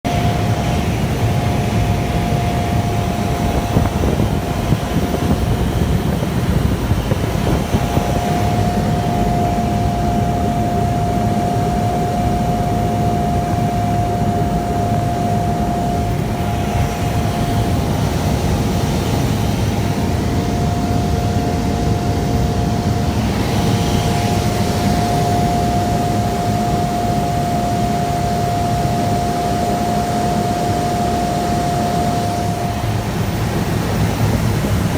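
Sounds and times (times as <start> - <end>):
constant whining tone: 0.0 - 34.9
turboprop engine drone: 0.0 - 34.9.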